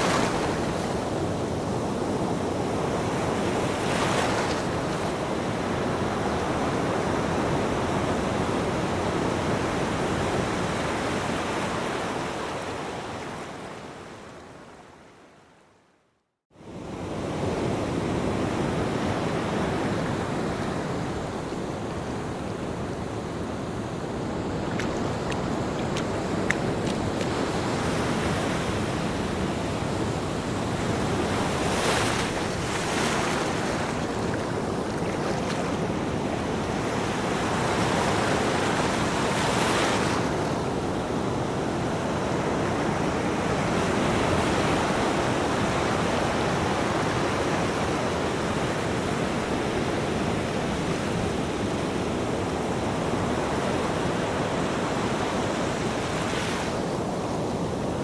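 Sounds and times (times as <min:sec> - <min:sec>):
ocean waves breaking on beach: 0:00.0 - 0:14.7, 0:16.6 - 0:58.0.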